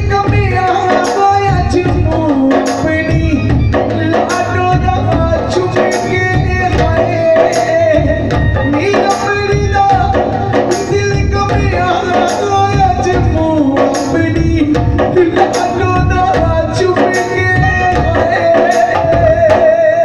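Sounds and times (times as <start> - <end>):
hand drum rhythm: 0.0 - 20.0
man singing through microphone: 0.0 - 20.0.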